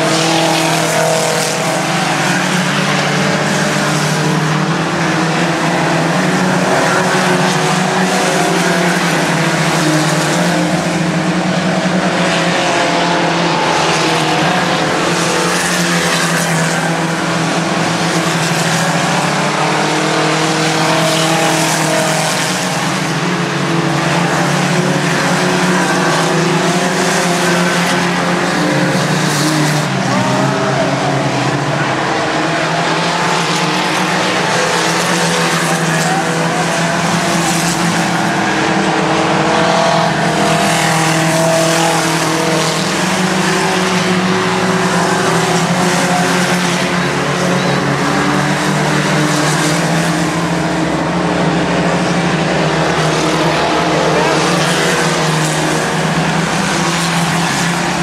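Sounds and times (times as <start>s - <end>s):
racing truck engines: 0.0s - 58.0s.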